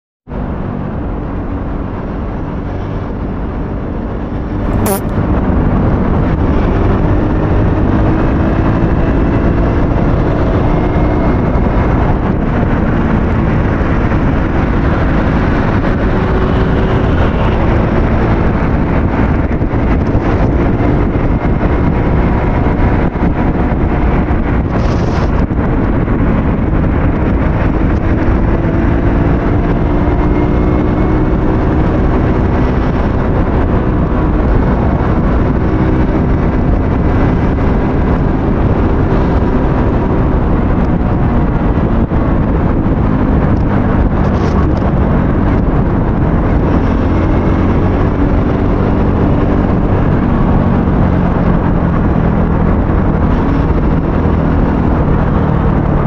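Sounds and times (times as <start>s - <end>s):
wind rushing on camera: 0.3s - 56.0s
motorcycle engine revving: 0.7s - 56.0s.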